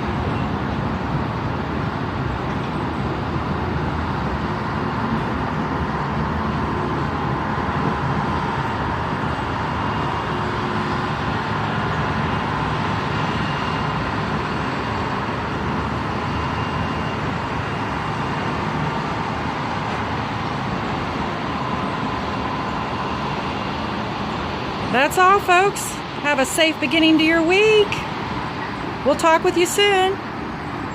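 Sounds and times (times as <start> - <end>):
freight train wheels rumbling on rails: 0.0 - 30.9.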